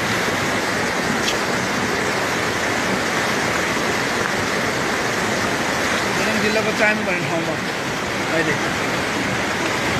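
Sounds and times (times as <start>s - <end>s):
floodwater roaring: 0.0s - 9.9s.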